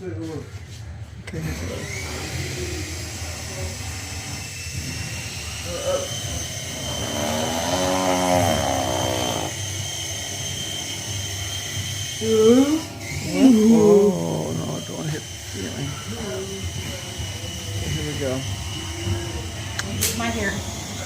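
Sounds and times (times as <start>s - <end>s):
toy propeller motors whining: 1.6s - 21.0s.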